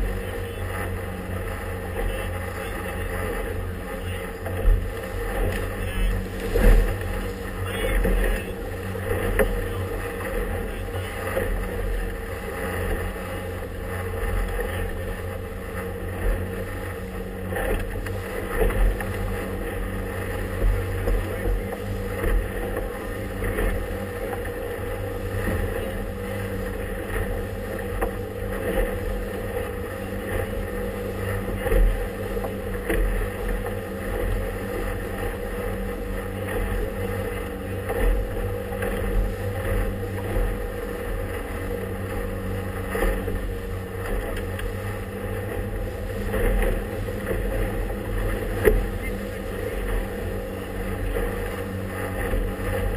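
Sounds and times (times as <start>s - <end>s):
hull slapping through choppy water: 0.0s - 52.9s
motorboat engine droning: 0.0s - 52.9s
water splashes and knocks: 4.3s - 10.6s, 11.2s - 52.9s.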